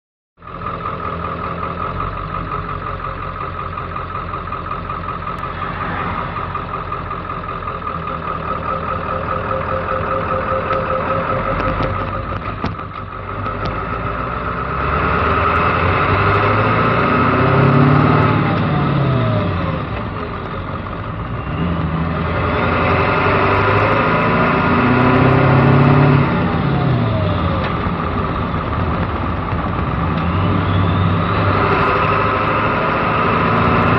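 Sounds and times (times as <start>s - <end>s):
diesel engine accelerating: 0.4s - 33.9s.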